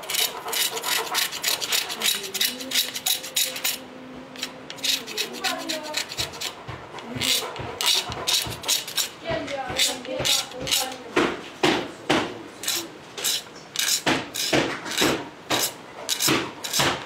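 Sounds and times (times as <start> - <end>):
knife shaving wood: 0.0 - 11.0, 12.6 - 17.0.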